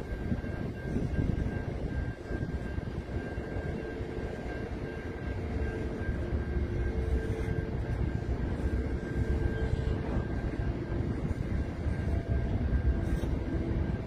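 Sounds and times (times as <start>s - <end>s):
faint whining tones: 0.0s - 14.0s
train wheels rumbling on rail: 0.0s - 14.0s.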